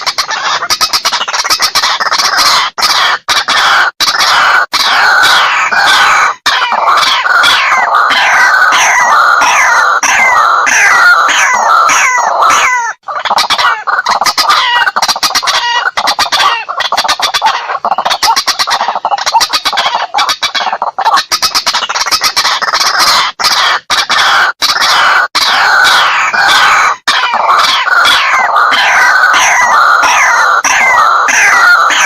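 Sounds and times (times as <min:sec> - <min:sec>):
waterhen calling: 0:00.0 - 0:32.0.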